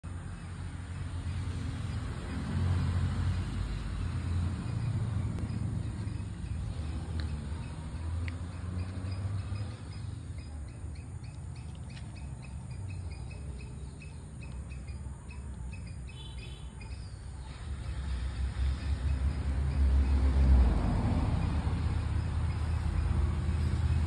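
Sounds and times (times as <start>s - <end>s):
bird chirping: 0.1s - 24.0s.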